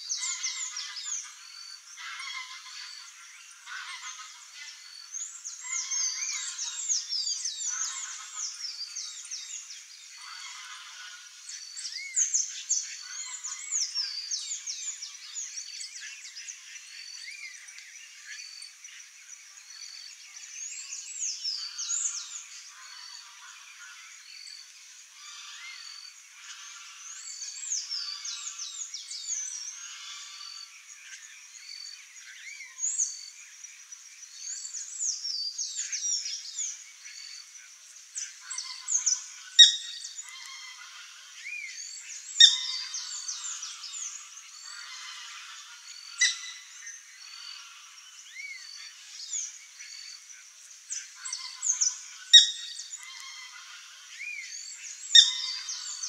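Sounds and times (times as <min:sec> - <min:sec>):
birds calling and singing: 0:00.0 - 0:56.0.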